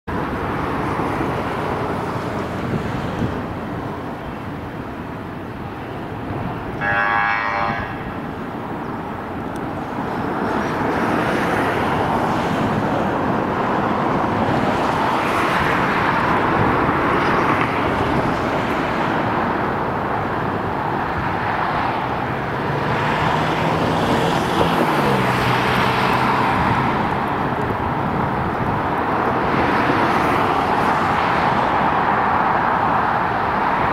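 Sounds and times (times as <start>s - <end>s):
road traffic: 0.0s - 33.9s
jet airliner rumble: 0.1s - 6.8s, 7.6s - 33.9s.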